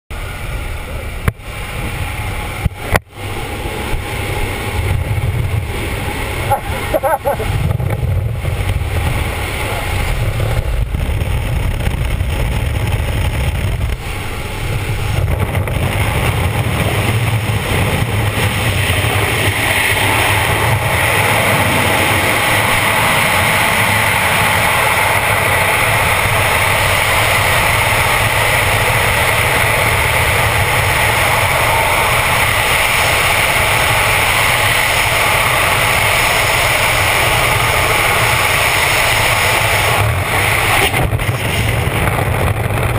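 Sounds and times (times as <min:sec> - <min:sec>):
aircraft engine and slipstream noise: 0:00.1 - 0:42.9
wind rushing over microphone: 0:00.1 - 0:42.9.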